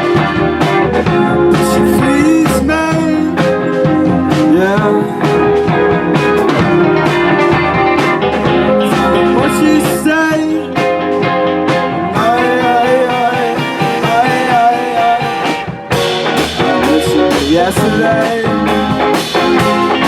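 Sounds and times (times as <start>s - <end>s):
electric guitar: 0.0s - 20.0s
live rock band playing: 0.0s - 20.0s.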